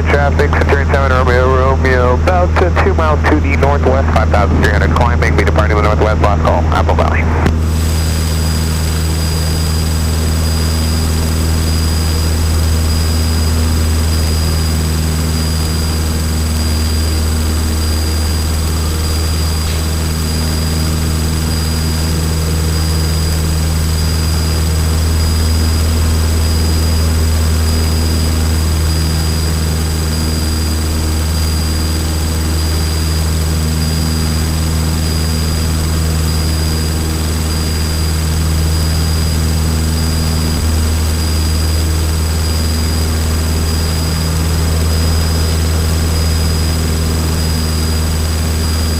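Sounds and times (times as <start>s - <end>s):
faint high whines: 0.0s - 48.9s
propeller plane engine drone: 0.0s - 48.9s.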